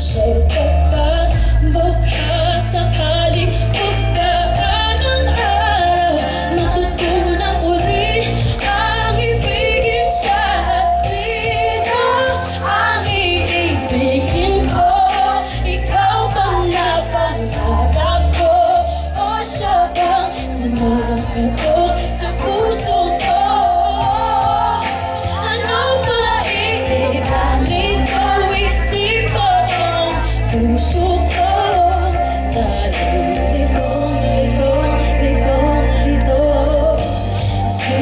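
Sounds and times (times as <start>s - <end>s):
backing music with bass: 0.0s - 38.0s
woman singing into microphone: 0.0s - 38.0s.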